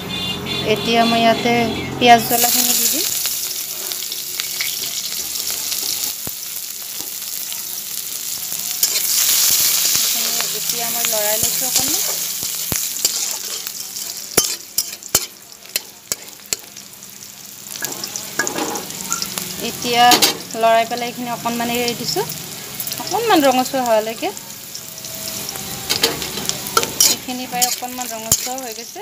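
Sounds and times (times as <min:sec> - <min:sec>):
onions sizzling in hot oil: 0:02.1 - 0:29.0.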